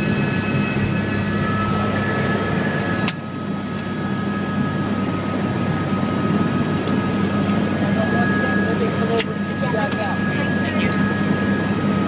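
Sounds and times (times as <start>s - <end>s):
helicopter turbine and rotors drone: 0.0s - 12.0s.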